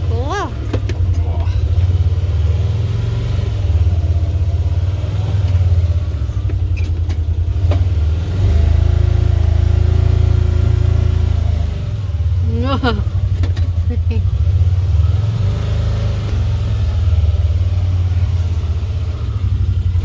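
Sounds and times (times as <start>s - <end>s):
farm vehicle engine running: 0.0s - 20.0s.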